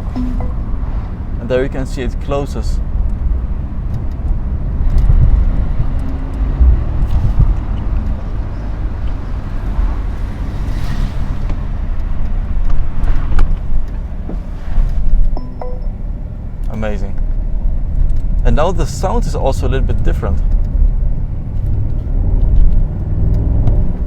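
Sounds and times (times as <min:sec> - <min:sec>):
car engine low rumble: 0:00.0 - 0:24.0.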